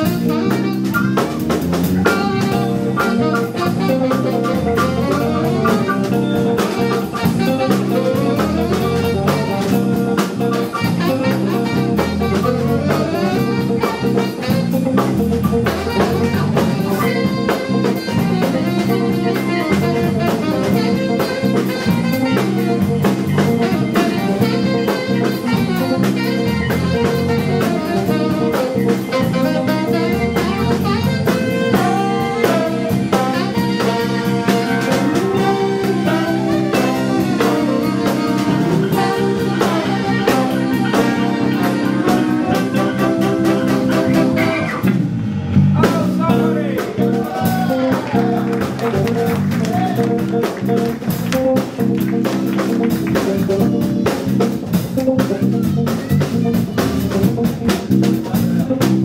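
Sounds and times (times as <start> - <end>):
funk band playing: 0.0 - 59.0
tenor saxophone: 0.0 - 59.0.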